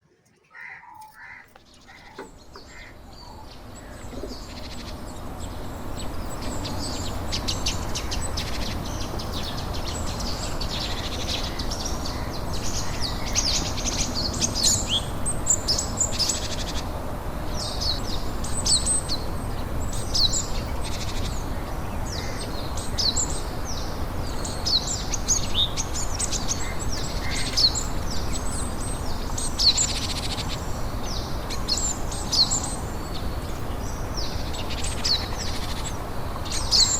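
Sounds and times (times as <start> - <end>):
small birds chirping: 0.0 - 36.9
steady low background noise: 0.0 - 36.9.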